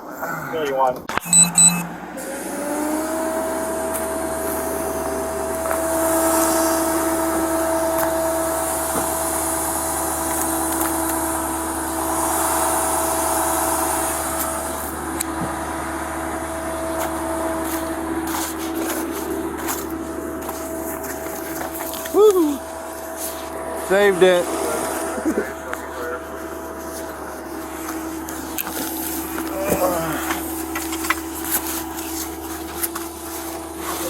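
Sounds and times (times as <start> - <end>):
truck engine whining: 0.0 - 34.0.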